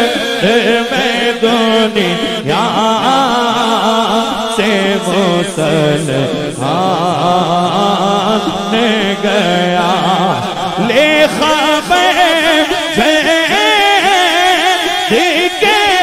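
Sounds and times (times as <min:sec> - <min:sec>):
man singing devotional chant: 0:00.0 - 0:16.0.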